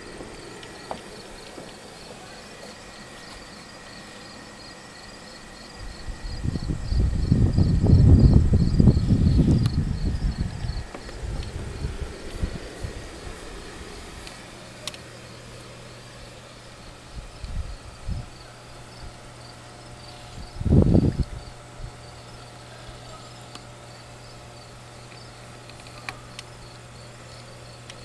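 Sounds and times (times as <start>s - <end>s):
crickets chirping: 0.0s - 28.0s
low hum: 0.0s - 28.0s.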